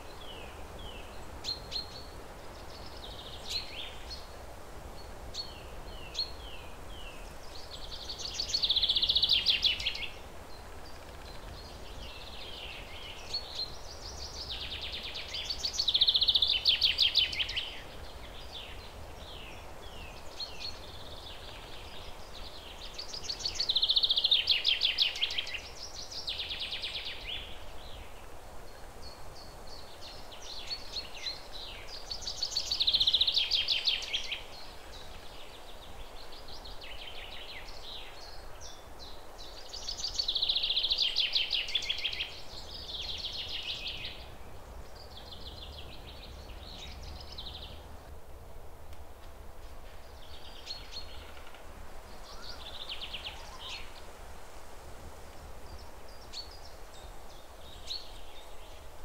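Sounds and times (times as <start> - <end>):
bird song with trill: 0.0 - 4.3, 5.0 - 47.9, 50.0 - 54.0, 55.7 - 58.8.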